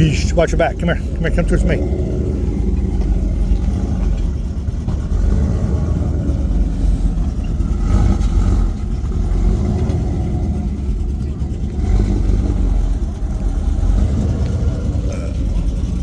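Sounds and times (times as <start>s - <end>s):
truck engine driving past: 0.0s - 16.0s.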